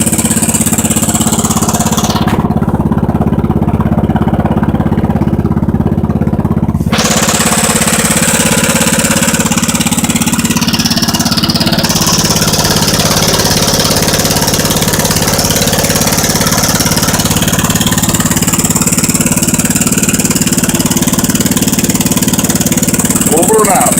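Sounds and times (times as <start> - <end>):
garden tractor engine idling: 0.0 - 23.9.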